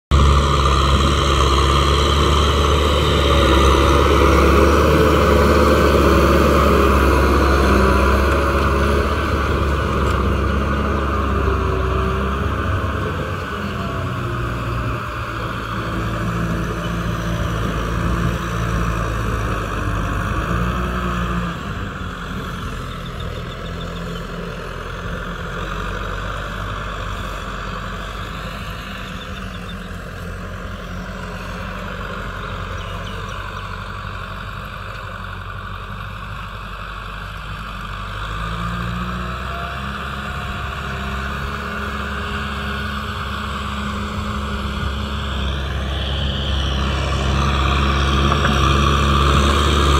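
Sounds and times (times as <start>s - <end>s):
tractor diesel engine running: 0.1s - 49.9s.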